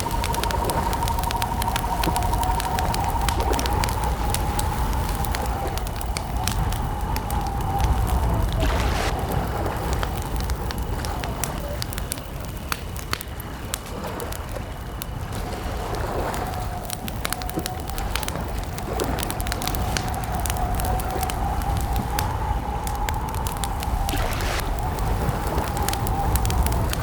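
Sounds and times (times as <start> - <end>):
campfire crackling and popping: 0.0 - 27.0
low rumble of fire: 0.0 - 27.0.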